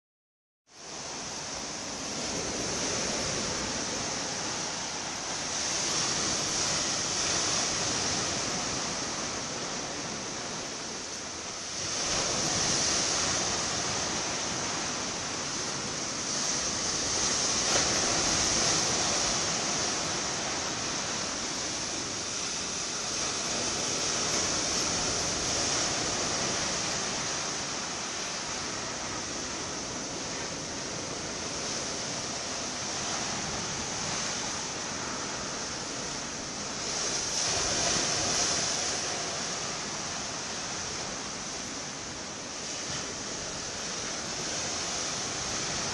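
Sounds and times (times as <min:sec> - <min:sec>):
ocean waves hissing: 0:00.8 - 0:45.9.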